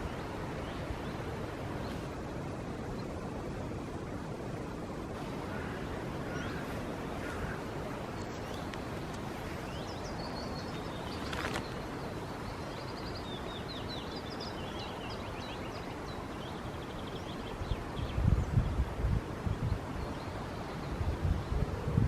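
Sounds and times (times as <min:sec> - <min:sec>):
songbirds chirping and trilling: 0:00.0 - 0:21.6
outdoor ambient hiss: 0:00.0 - 0:22.0.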